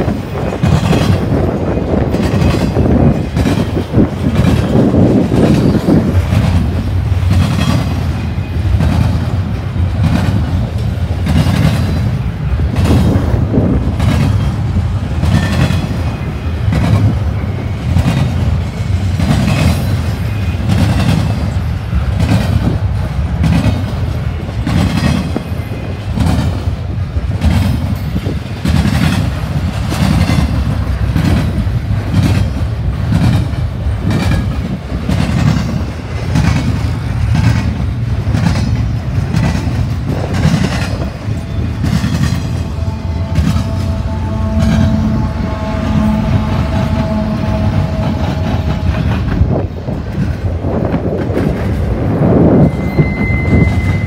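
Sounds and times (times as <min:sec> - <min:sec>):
wheels clickety-clack: 0:00.0 - 0:45.2, 0:46.0 - 0:52.8
train wheels rumbling on rail: 0:00.0 - 0:54.0.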